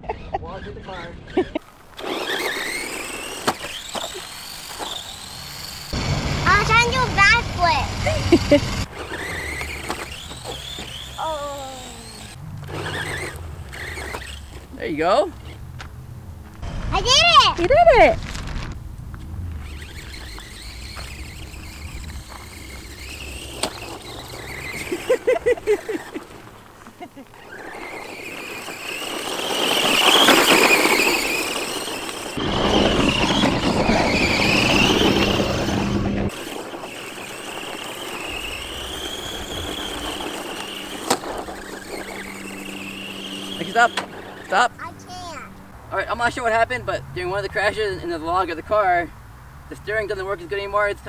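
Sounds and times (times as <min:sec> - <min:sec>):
electric motor whining: 0:00.6 - 0:17.1, 0:18.2 - 0:48.7.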